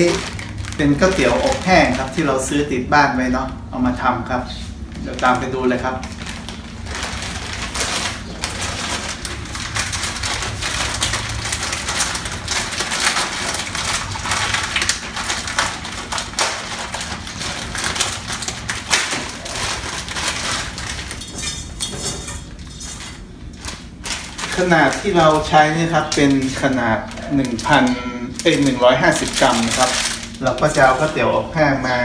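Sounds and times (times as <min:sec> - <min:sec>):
dry noodles rustling: 0:00.0 - 0:02.7, 0:04.5 - 0:21.8, 0:22.4 - 0:32.0
plastic packet crinkling: 0:00.0 - 0:02.7, 0:04.8 - 0:21.8, 0:22.5 - 0:31.5.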